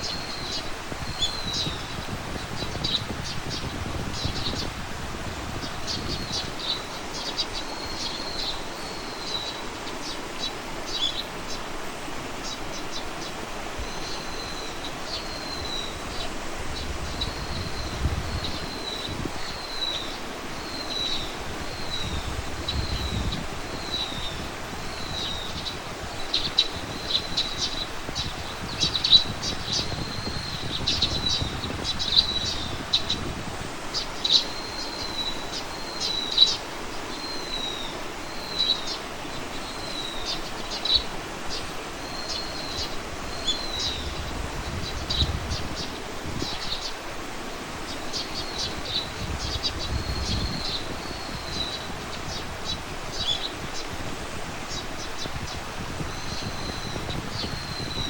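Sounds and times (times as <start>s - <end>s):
low wind rumble: 0.0s - 58.0s
outdoor hiss: 0.0s - 58.0s
songbirds chirping: 0.0s - 58.0s.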